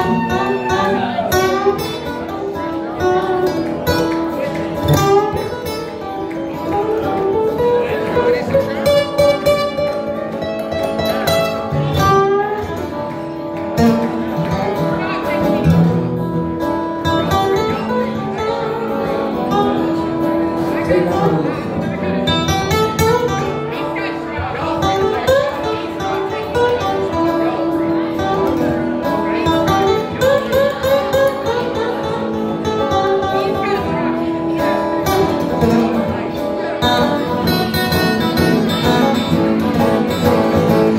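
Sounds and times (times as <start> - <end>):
acoustic guitars playing: 0.0 - 40.9.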